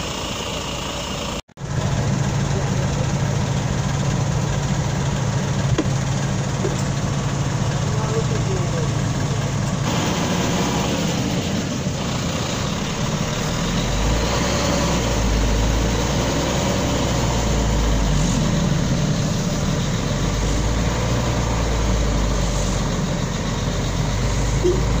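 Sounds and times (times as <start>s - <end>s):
diesel engines idling: 0.0s - 25.0s.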